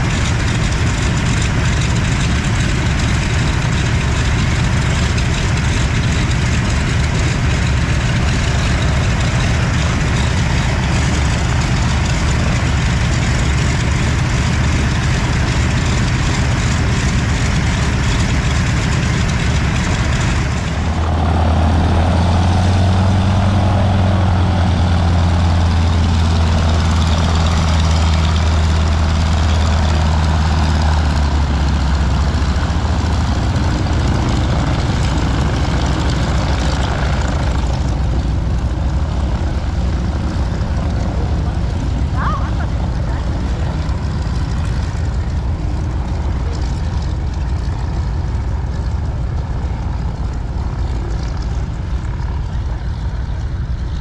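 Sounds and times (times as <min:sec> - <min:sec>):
radial plane engines droning: 0:00.0 - 0:54.0.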